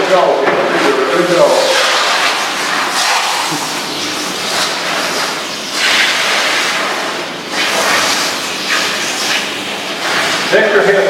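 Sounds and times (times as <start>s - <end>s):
hose spraying water hiss: 1.4s - 10.9s.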